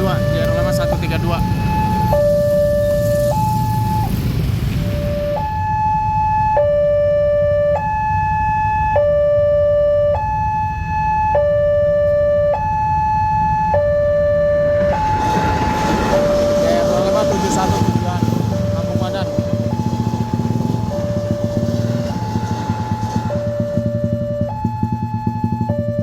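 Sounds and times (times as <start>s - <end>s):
level-crossing two-tone alarm: 0.0s - 26.0s.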